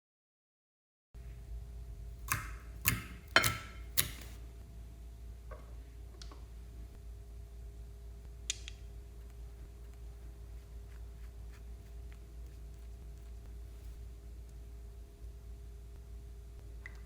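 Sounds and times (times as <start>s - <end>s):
low steady hum: 1.2s - 17.0s.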